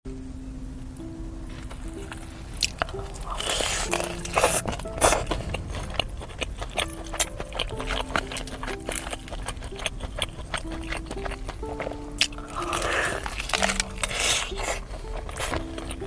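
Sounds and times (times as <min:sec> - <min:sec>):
soft background music: 0:00.1 - 0:16.0
crunching fried chicken: 0:01.4 - 0:16.0.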